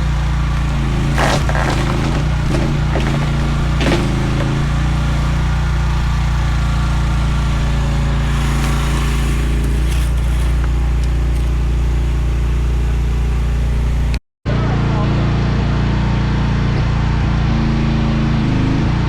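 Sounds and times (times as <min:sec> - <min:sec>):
small excavator engine running: 0:00.0 - 0:18.8.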